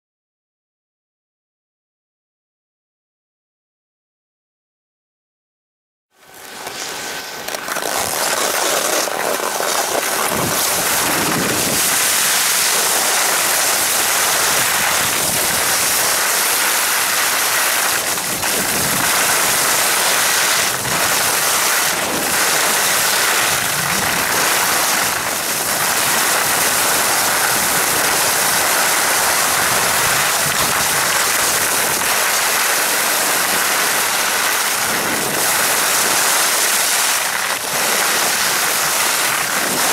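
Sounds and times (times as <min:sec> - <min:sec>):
skis sliding on packed snow: 0:06.2 - 0:39.9
wind on microphone: 0:07.8 - 0:39.9.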